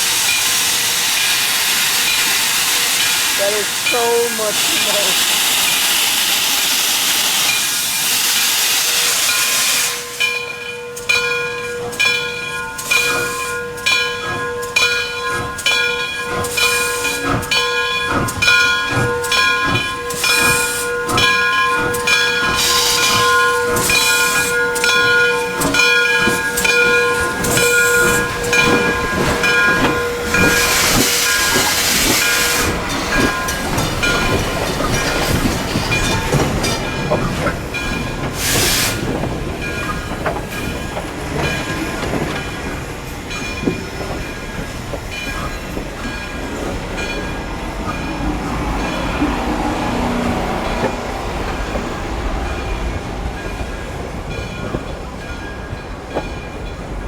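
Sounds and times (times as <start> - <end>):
loud steam hiss: 0.0 - 11.2, 11.8 - 56.7
steam locomotive exhaust chuffs: 0.0 - 57.0.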